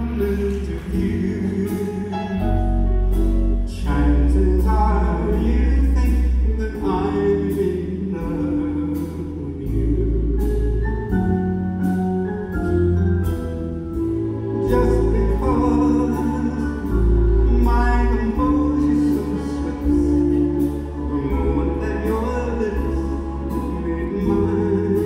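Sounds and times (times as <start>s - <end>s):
man singing with vibrato: 0.0s - 11.4s, 14.5s - 25.0s
big band playing: 0.0s - 25.0s.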